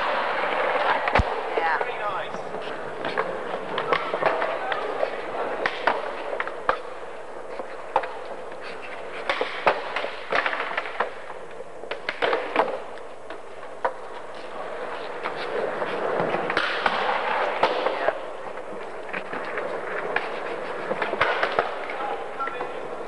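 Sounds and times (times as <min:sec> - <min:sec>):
skateboard wheels clacking on joints: 0:00.0 - 0:23.0
skateboard wheels rolling on stone: 0:00.0 - 0:23.0
skateboards knocking the ground: 0:00.0 - 0:23.0.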